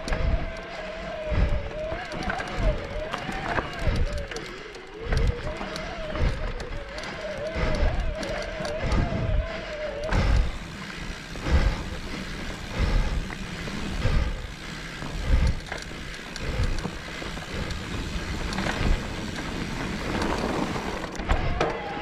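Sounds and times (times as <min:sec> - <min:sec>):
bike rattling: 0:00.0 - 0:22.0
tyre and trail noise: 0:00.0 - 0:22.0.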